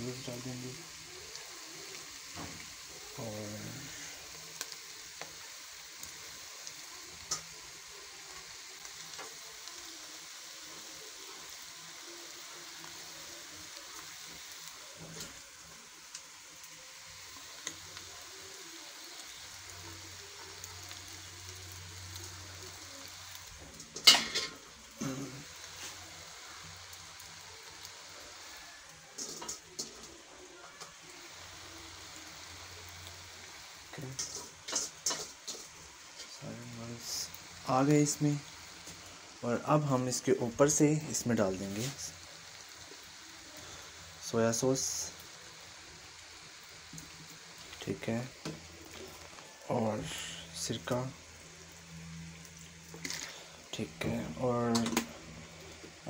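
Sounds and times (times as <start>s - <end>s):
noodles sizzling in pot: 0.0s - 56.0s.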